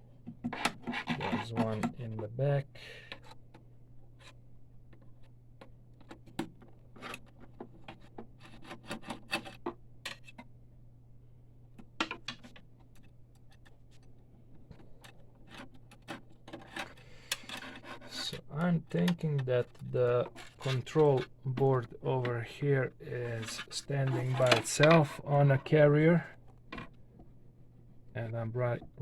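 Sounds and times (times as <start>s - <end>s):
steady low hum: 0.0s - 8.8s, 9.5s - 29.0s.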